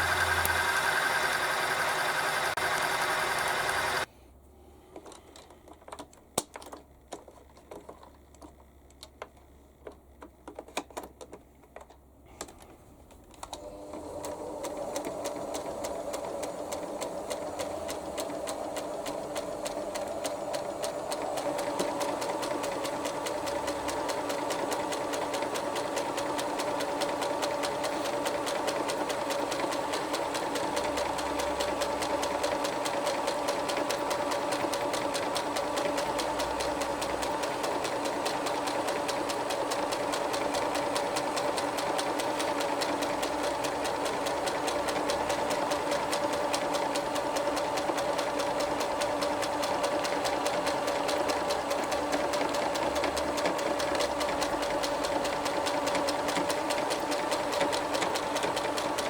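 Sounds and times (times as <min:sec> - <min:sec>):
sewing machine stitching: 0:00.0 - 0:04.1, 0:13.4 - 0:59.0.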